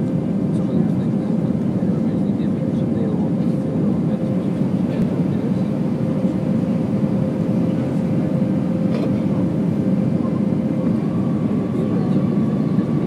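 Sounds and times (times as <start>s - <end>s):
high engine whine: 0.0s - 13.0s
jet engine rumble: 0.0s - 13.0s.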